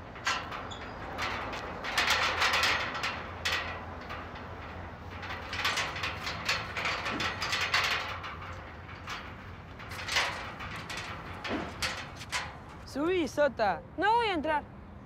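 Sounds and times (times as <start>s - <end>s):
gate rattling and clattering: 0.0s - 13.0s.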